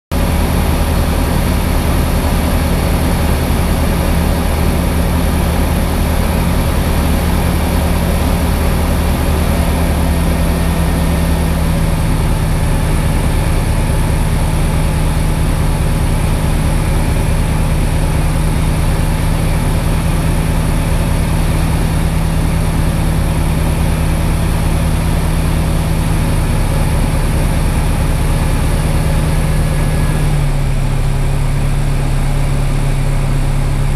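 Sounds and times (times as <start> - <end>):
light aircraft engine and propeller: 0.1 - 33.9.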